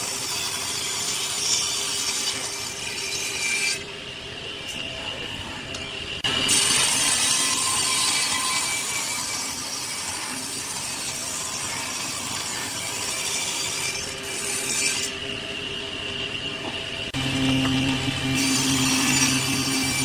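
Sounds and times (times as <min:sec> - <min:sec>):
table saw blade whine: 0:00.0 - 0:20.0.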